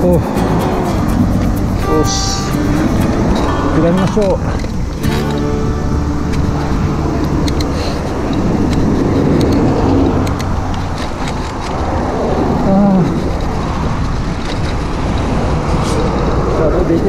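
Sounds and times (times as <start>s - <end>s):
road traffic passing: 0.0s - 17.0s
wind rushing on microphone: 0.0s - 17.0s.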